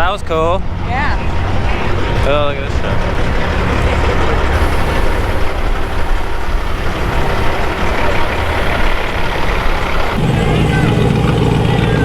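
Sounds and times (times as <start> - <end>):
dense noisy din: 0.0 - 12.0
engine rumble: 0.0 - 12.0.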